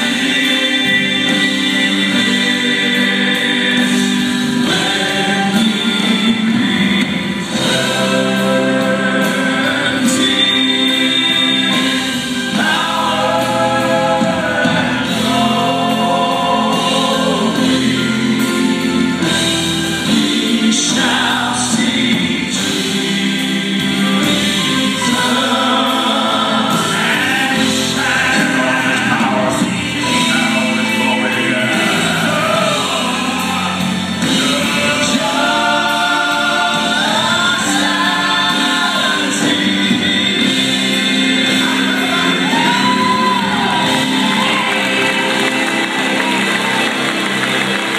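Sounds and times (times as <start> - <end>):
band accompaniment: 0.0 - 47.9
bass guitar: 0.0 - 47.9
vocal group singing in harmony: 0.0 - 47.9.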